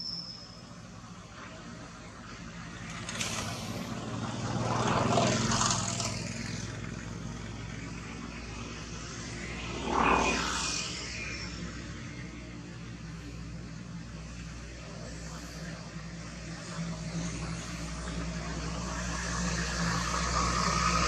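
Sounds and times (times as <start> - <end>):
vehicle engine passing by: 2.2 - 21.0.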